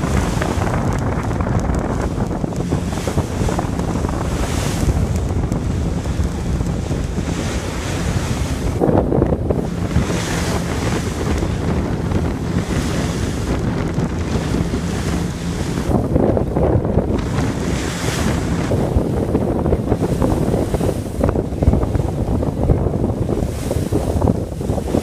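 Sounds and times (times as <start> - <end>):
rushing sea water: 0.0 - 25.0
ship engines humming: 0.0 - 25.0
wind buffeting microphone: 0.0 - 25.0.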